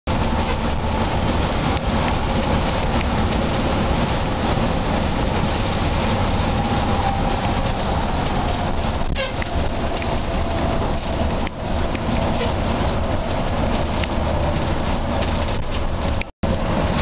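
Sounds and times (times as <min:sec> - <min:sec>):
bus engine and road rumble: 0:00.1 - 0:17.0.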